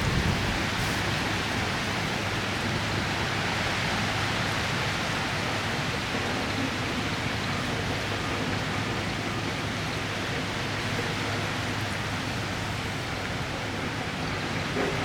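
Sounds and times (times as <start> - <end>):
heavy rain: 0.0 - 15.0
strong wind: 0.0 - 15.0.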